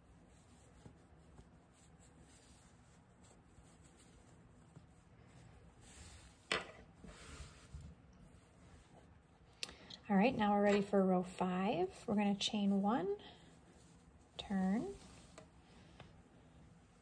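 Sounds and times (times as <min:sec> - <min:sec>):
yarn rustling: 0:00.0 - 0:17.0.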